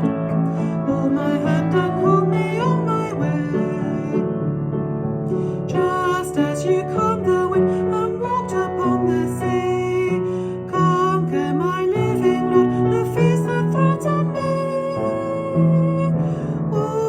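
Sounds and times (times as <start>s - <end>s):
singing a hymn: 0.0s - 4.3s, 5.7s - 17.0s
piano: 0.0s - 17.0s.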